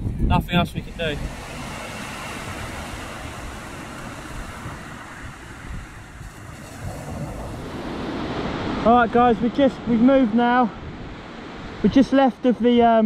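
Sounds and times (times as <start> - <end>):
wind buffeting microphone: 0.0 - 13.0
surf on a shingle beach: 0.2 - 13.0.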